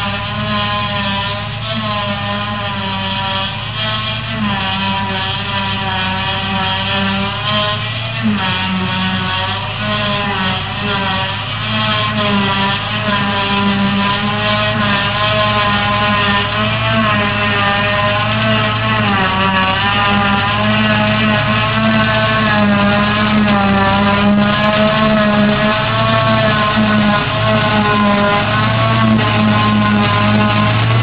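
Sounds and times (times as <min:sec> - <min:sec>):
engine running under load: 0:00.0 - 0:31.0.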